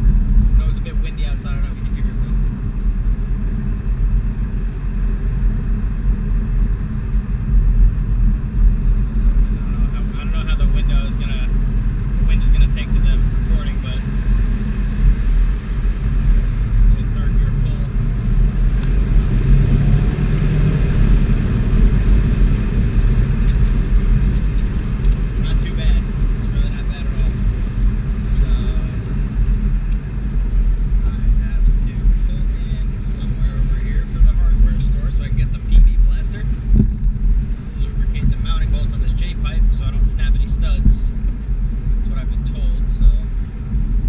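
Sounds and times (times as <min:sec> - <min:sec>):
car engine low rumble: 0:00.0 - 0:44.0
road noise: 0:00.0 - 0:44.0.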